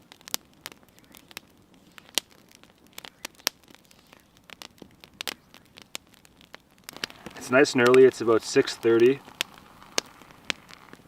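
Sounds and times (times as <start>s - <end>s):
sharp crackles and clicks: 0.0s - 11.0s.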